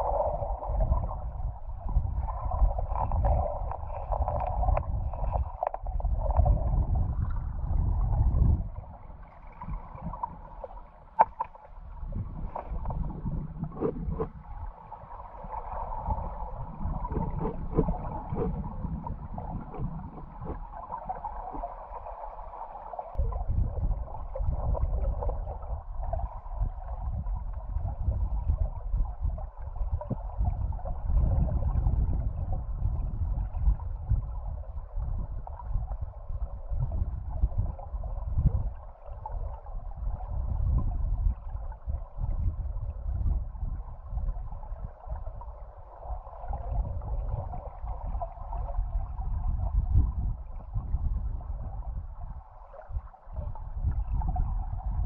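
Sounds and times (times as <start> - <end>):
underwater river rumble and gurgling: 0.0 - 55.0.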